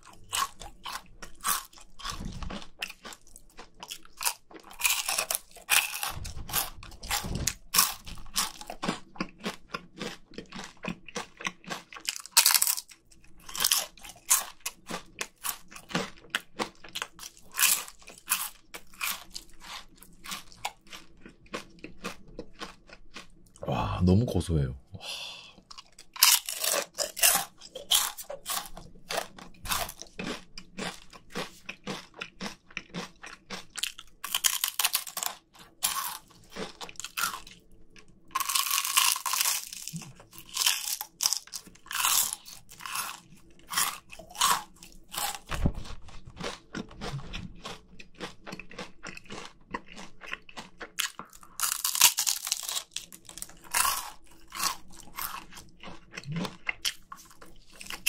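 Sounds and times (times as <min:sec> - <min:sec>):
crunching fried chicken skin: 0:00.0 - 0:23.6, 0:25.6 - 0:58.0.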